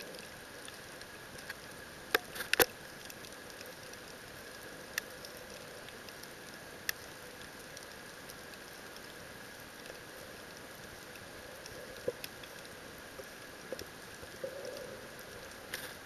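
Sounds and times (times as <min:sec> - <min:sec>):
faint crackle: 0:00.0 - 0:16.0.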